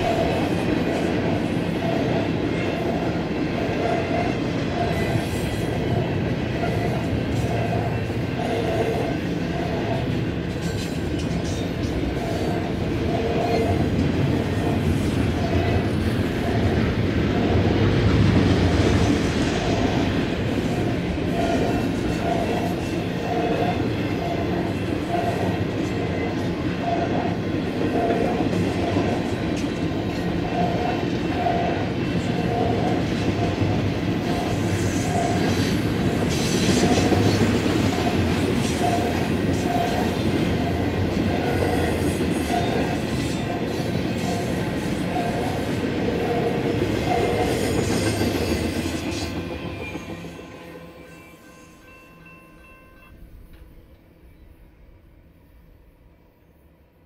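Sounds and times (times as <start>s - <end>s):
train wheels rumbling on rail: 0.0s - 51.2s.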